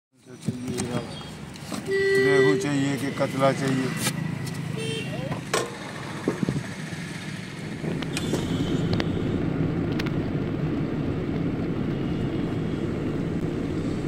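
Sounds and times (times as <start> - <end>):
car engine and tyre rumble: 0.2 - 14.0.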